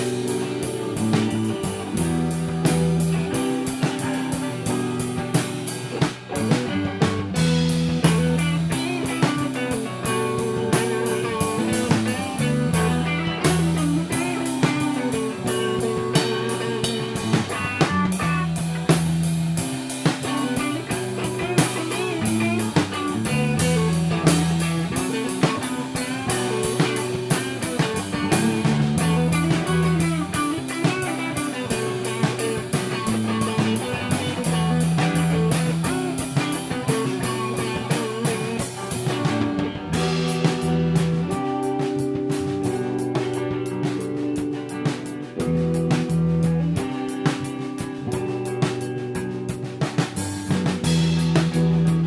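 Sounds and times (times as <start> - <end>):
bass riff: 0.0 - 52.0
drum kit: 0.0 - 52.0
electric guitar: 0.0 - 52.0.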